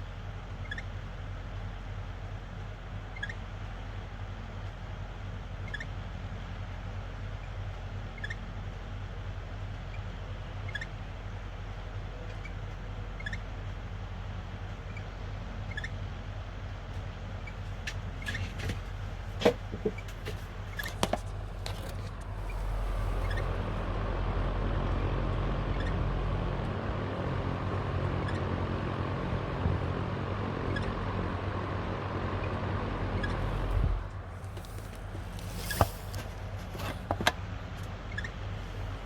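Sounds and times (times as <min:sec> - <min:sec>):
abnormal mechanical fan noise: 0:00.0 - 0:39.0
stand fan humming: 0:00.0 - 0:39.0.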